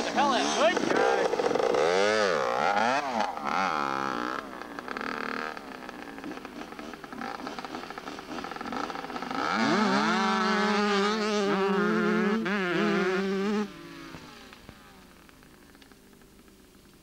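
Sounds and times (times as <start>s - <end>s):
two-stroke dirt bikes revving: 0.0s - 17.0s.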